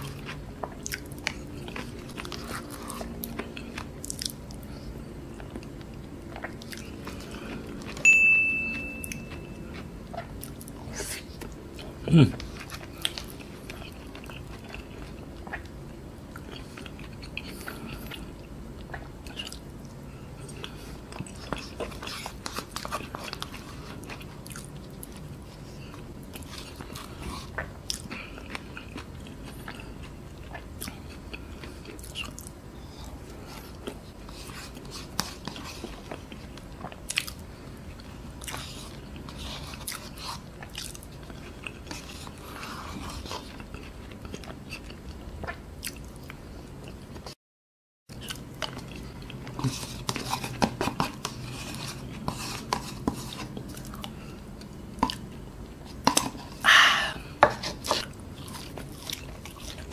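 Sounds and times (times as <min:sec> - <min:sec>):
close chewing and eating: 0:00.0 - 0:47.4, 0:48.1 - 0:59.9.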